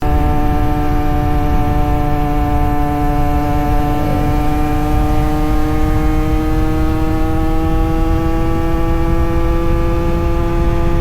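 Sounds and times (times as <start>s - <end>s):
two-stroke motorcycle engine running: 0.0s - 11.0s.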